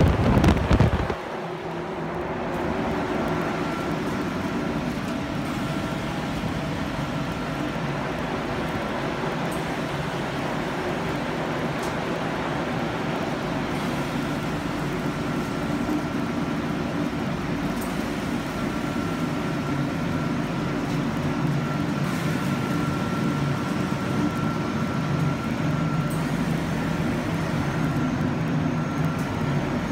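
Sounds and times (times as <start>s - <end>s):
air filtration fans droning: 0.0s - 29.9s.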